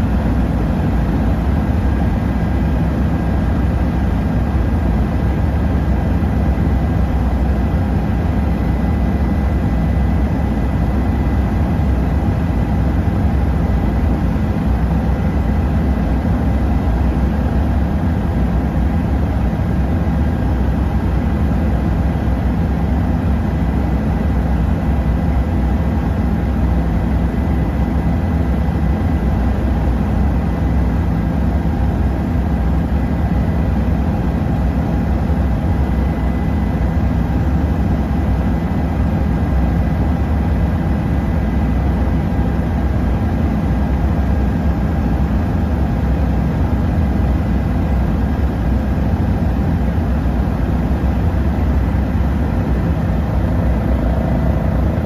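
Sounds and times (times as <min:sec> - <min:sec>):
faint high whine: 0:00.0 - 0:55.0
helicopter rotor and engine drone: 0:00.0 - 0:55.0.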